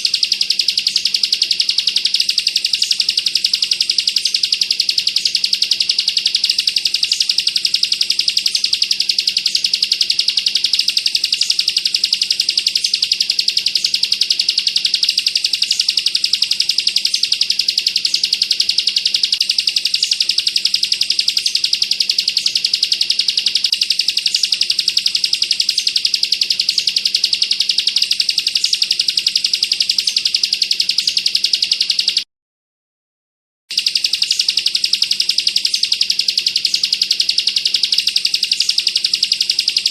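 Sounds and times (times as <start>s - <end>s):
bird high-pitched rattling trill: 0.0s - 32.2s, 33.7s - 39.9s.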